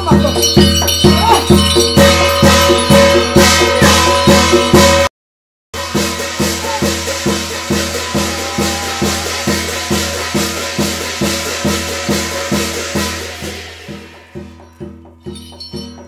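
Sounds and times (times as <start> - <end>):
drum beating: 0.0 - 5.1, 5.8 - 16.0
jingling metal percussion: 0.0 - 5.1, 5.8 - 16.0.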